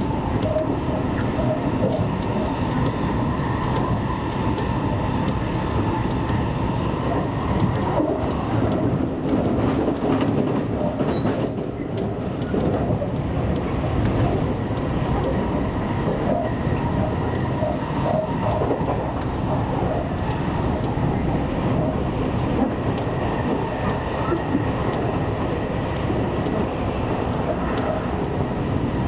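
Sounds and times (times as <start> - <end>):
clickety-clack over rail joints: 0.0 - 29.0
wheel-on-rail rumble: 0.0 - 29.0.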